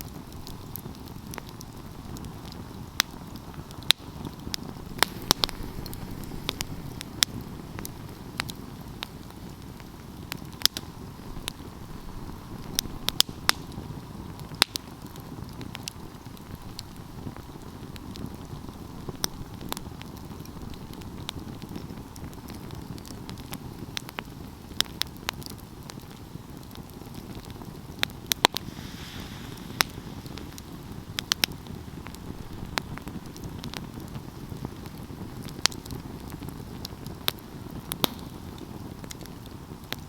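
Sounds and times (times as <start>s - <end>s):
low rumble of flame: 0.0s - 40.0s
wood crackling and popping: 0.0s - 40.0s.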